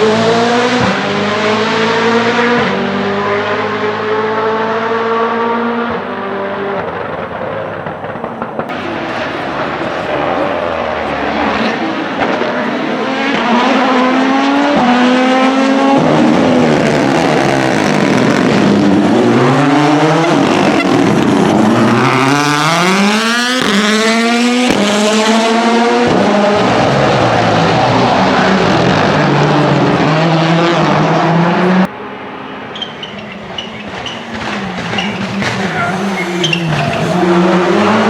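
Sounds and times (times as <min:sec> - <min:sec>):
rally car engine accelerating: 0:00.0 - 0:38.0.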